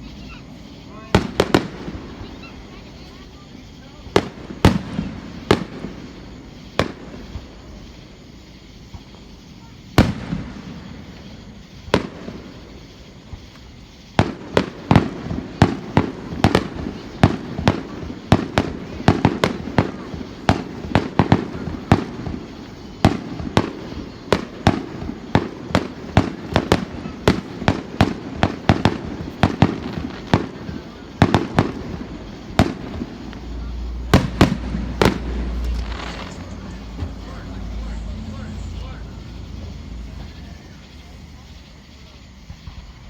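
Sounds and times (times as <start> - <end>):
fireworks bangs: 0.0 - 43.0.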